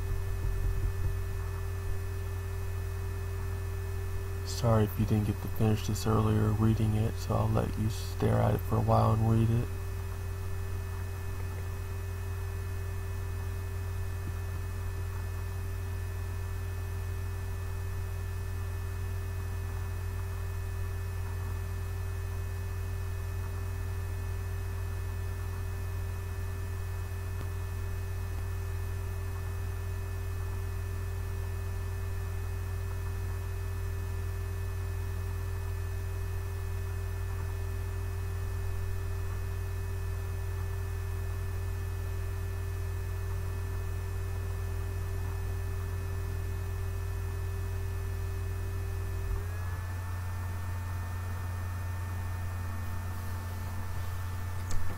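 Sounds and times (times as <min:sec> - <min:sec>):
low electrical hum: 0:00.0 - 0:54.9.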